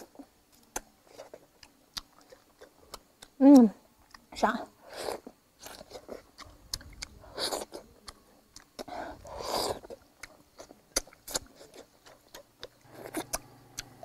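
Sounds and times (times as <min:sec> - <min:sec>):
chewing: 0:00.0 - 0:04.3, 0:04.9 - 0:14.0.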